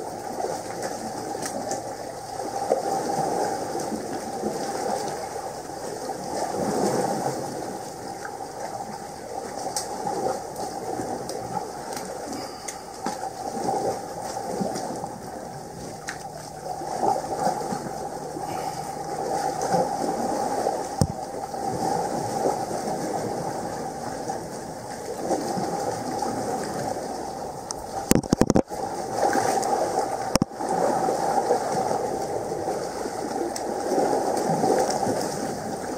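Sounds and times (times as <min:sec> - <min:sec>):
sea water washing against rocks: 0:00.0 - 0:35.9.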